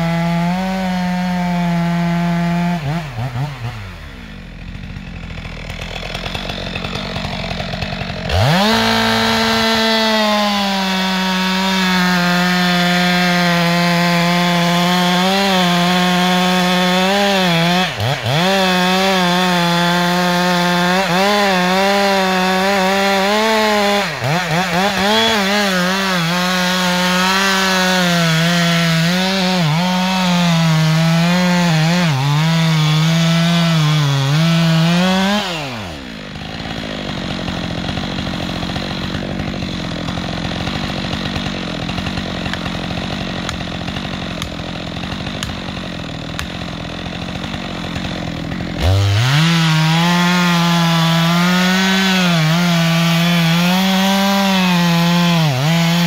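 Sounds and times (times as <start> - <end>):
chainsaw cutting wood: 0.0 - 56.0
chainsaw idling: 0.0 - 56.0.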